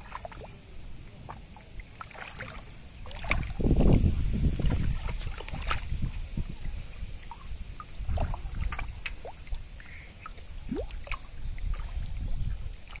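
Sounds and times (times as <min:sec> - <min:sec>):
water splashing and dripping: 0:00.0 - 0:13.0.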